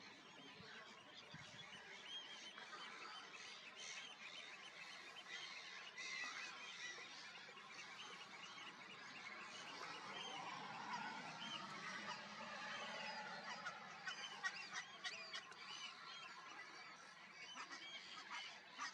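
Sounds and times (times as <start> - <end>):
many birds calling: 0.0 - 18.9.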